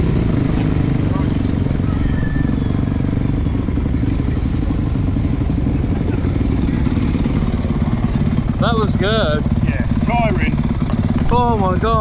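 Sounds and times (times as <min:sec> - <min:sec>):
motocross bike engine idling: 0:00.0 - 0:12.0.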